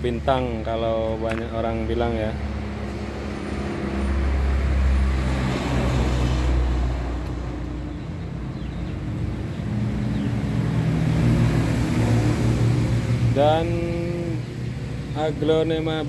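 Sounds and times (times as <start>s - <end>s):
deep vehicle rumble: 0.0s - 16.0s
vehicle engine drone: 0.0s - 16.0s.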